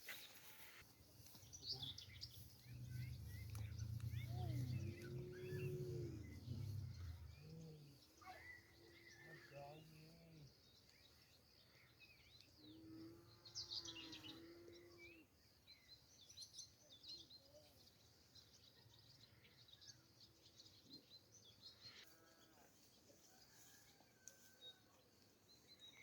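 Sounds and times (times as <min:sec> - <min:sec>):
small birds chirping: 0:00.0 - 0:23.6.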